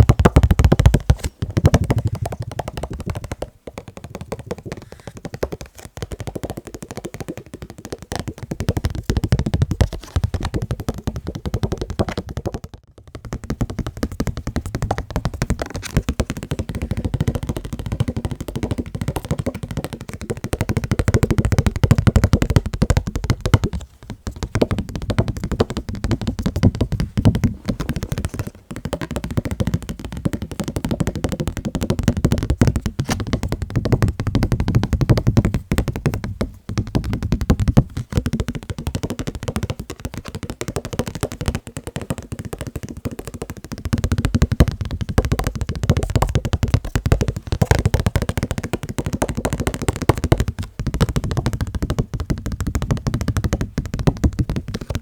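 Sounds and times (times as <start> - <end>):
fast tapping on objects: 0.0 - 55.0.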